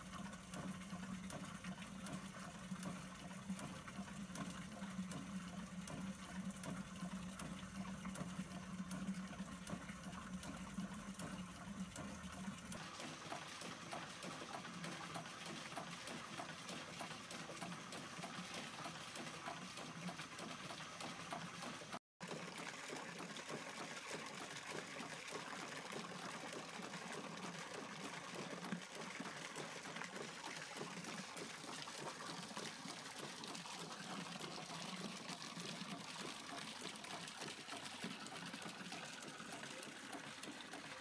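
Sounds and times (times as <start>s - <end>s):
pumping engine clicking: 0.0s - 41.0s
water pouring into a metal bucket: 0.0s - 41.0s.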